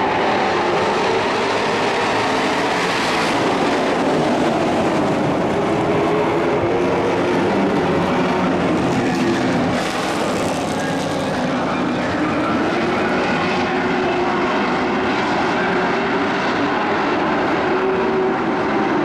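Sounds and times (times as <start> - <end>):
race truck engines at speed: 0.0 - 19.0.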